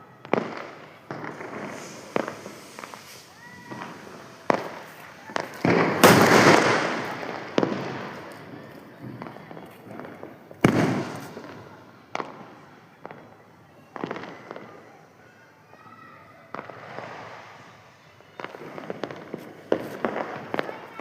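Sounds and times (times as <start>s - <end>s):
fireworks and firecrackers bangs: 0.0s - 21.0s.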